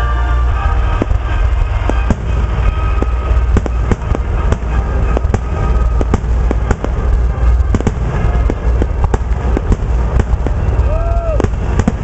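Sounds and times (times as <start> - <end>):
continuous low rumble: 0.0 - 12.0
fireworks bangs: 0.1 - 12.0.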